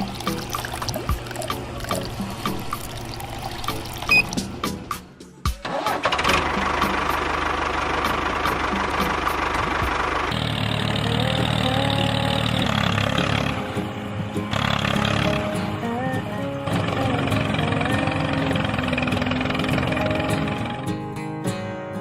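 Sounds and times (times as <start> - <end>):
tractor engine starting and running: 0.0 - 21.2
music: 0.0 - 22.0.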